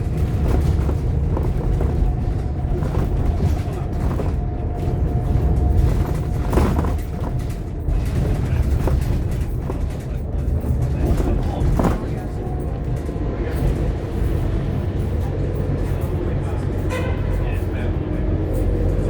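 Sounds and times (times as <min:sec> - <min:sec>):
bus engine droning: 0:00.0 - 0:19.0
rattles and knocks: 0:00.0 - 0:19.0.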